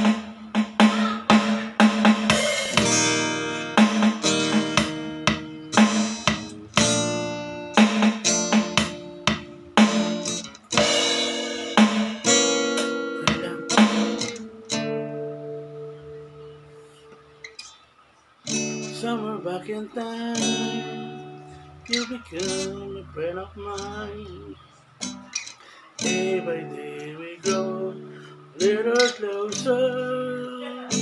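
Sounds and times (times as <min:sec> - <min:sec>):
acoustic guitar strumming chords: 0:00.0 - 0:31.0.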